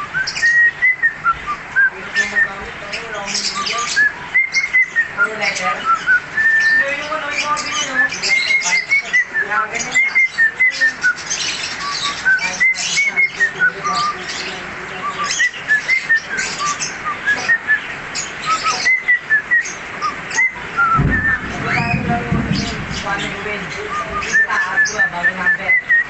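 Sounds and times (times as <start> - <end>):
cockatiel whistling: 0.0 - 2.6, 3.3 - 6.9, 7.7 - 14.4, 15.0 - 22.0, 23.8 - 26.0.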